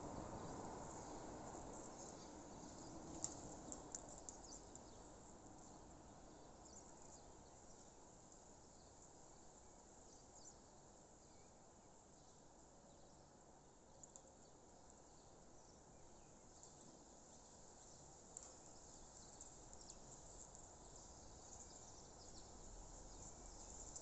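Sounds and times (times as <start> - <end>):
low steady hiss: 0.0 - 24.0.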